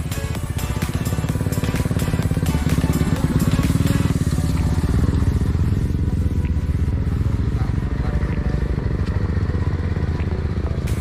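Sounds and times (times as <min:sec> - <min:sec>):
motorcycle engine running: 0:00.0 - 0:11.0
music playing: 0:00.0 - 0:11.0.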